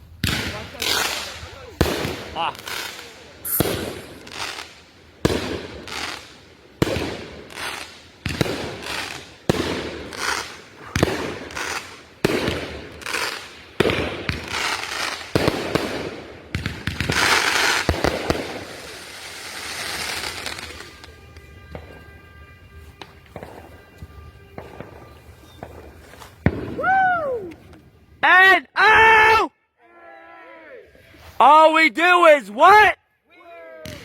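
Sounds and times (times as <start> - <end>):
fireworks crackling burst: 0.0 - 28.2
fireworks bangs: 0.1 - 28.2.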